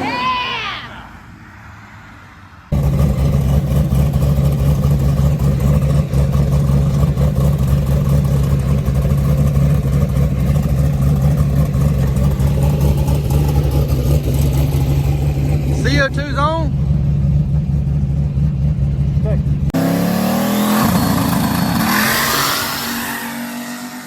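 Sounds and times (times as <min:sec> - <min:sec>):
race car engine running: 0:02.7 - 0:23.3.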